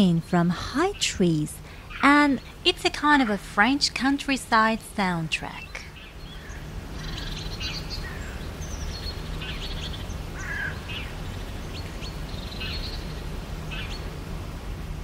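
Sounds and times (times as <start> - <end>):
small birds chirping: 0.8 - 14.2.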